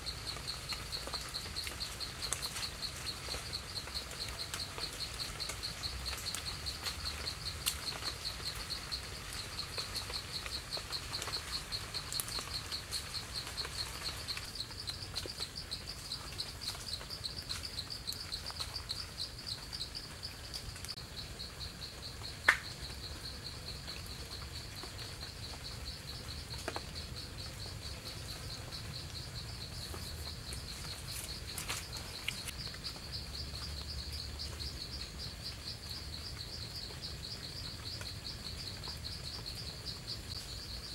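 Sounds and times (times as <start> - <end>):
insect chirping trill: 0.0 - 40.9.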